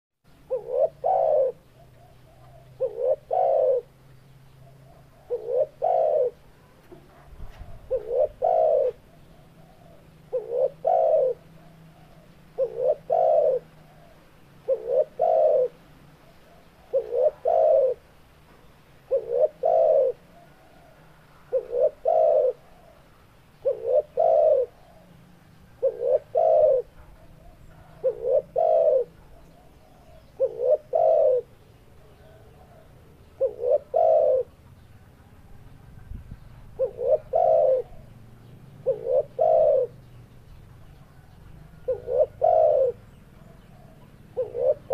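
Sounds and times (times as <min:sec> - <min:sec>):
dove cooing: 0:00.3 - 0:44.9.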